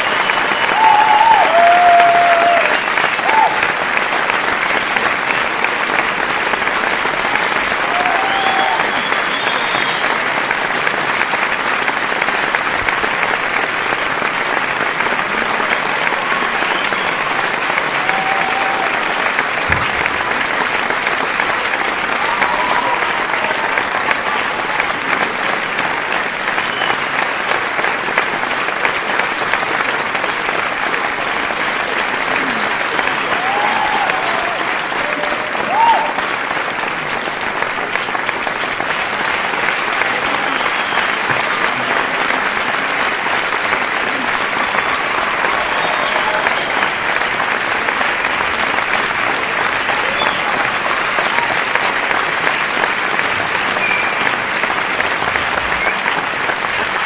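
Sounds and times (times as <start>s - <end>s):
crowd applause: 0.0s - 57.0s.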